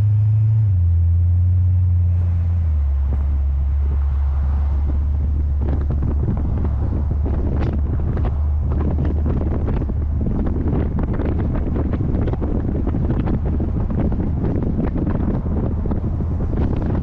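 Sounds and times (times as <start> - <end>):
low car drone: 0.0 - 17.0
wind buffeting microphone: 2.1 - 17.0.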